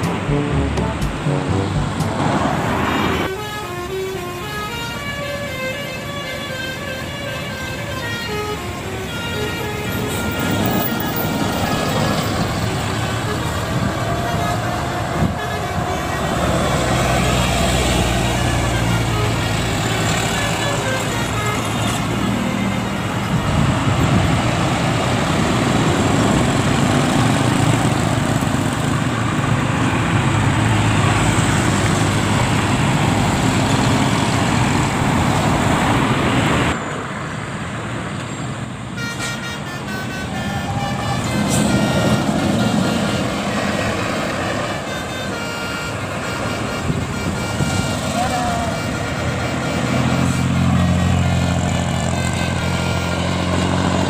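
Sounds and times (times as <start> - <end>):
multi-tone bus horns tooting: 0.0 - 29.0, 38.9 - 54.0
vehicle and road noise: 0.0 - 54.0.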